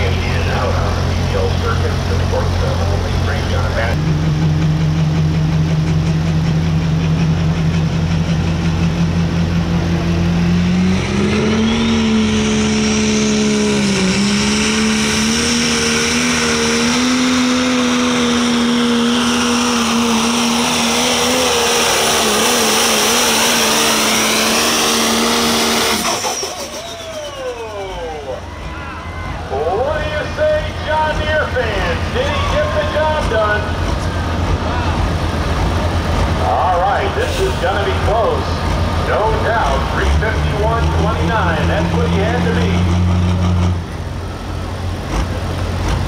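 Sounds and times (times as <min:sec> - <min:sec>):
diesel engine at full throttle: 0:00.0 - 0:46.0.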